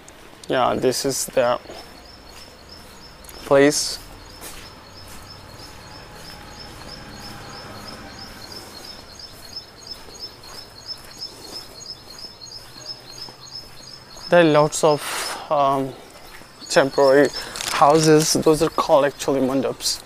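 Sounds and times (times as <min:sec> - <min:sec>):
bird chirping: 0:00.0 - 0:20.0
low outdoor background hum: 0:00.0 - 0:20.0.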